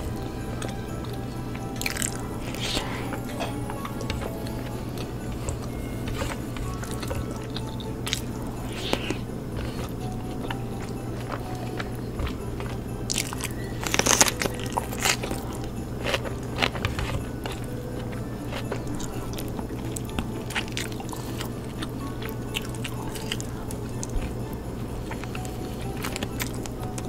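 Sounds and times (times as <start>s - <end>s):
background music: 0.0s - 27.0s
crunching and chewing: 0.0s - 27.0s
steady low hum: 0.0s - 27.0s.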